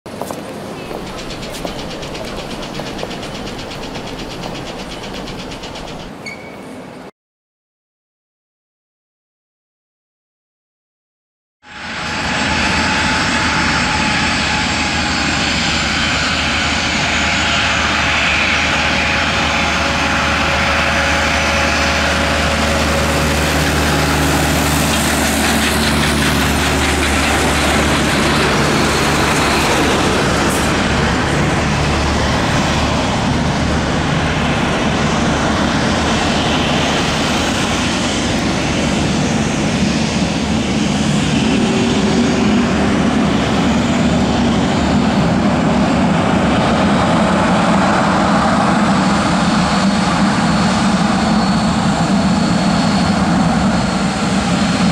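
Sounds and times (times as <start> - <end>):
jet engines rumbling: 0.1 - 7.0, 11.7 - 54.9.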